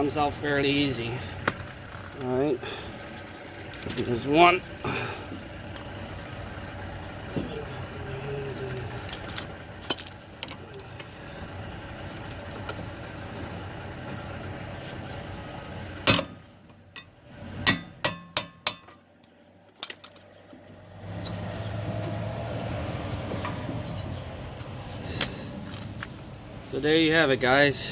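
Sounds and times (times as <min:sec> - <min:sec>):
background hum: 0:00.0 - 0:27.9.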